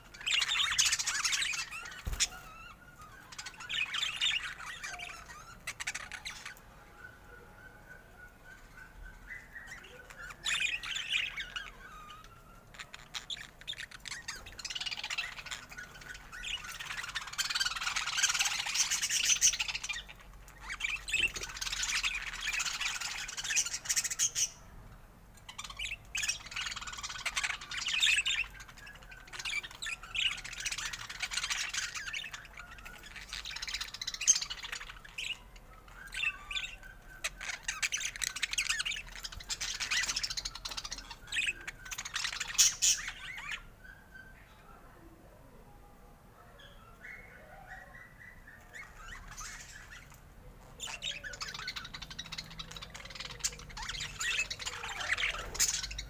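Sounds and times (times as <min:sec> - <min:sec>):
budgerigars chattering and warbling: 0:00.0 - 0:44.8, 0:46.6 - 0:56.0.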